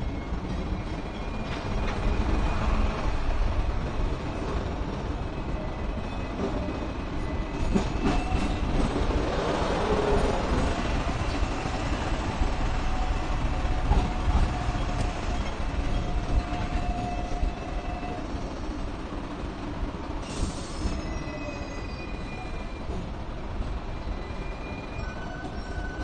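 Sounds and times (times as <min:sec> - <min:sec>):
steel wheels squealing on rails: 0:00.0 - 0:04.6, 0:05.2 - 0:18.9, 0:20.0 - 0:26.0
tram rumbling: 0:00.0 - 0:26.0.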